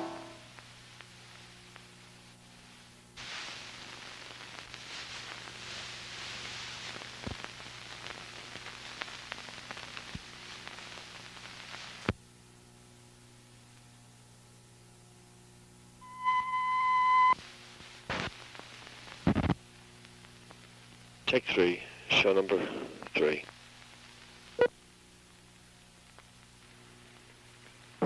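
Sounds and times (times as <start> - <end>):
low electrical hum: 0.0 - 28.0
static hiss and crackle: 0.0 - 28.0.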